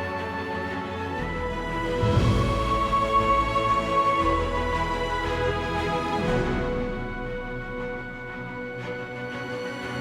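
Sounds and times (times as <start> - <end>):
cinematic music of sustained chords: 0.0 - 10.0.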